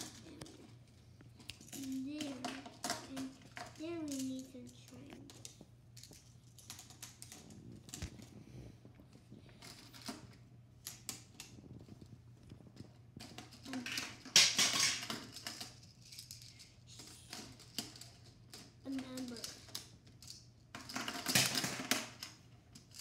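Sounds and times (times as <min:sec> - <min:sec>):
plastic tiles clicking and clattering: 0:01.4 - 0:08.2, 0:09.6 - 0:11.8, 0:12.7 - 0:23.0.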